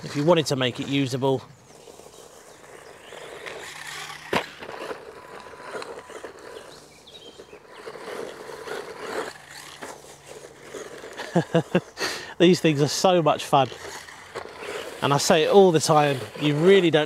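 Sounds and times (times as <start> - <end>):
electric motor whine: 0.0 - 17.0
tyres crunching on gravel: 0.0 - 17.0.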